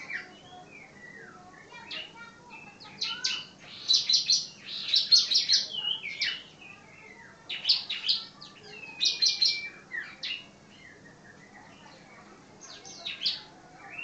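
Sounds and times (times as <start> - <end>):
bird chirping sharply: 0.0 - 12.0.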